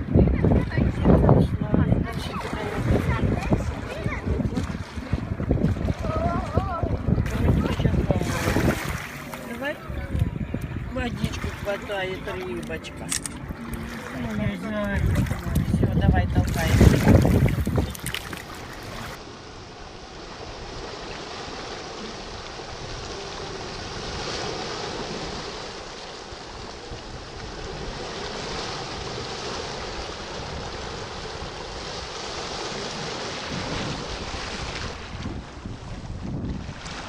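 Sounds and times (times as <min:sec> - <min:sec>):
sea water washing: 0:00.0 - 0:37.0
wind noise on microphone: 0:00.0 - 0:37.0.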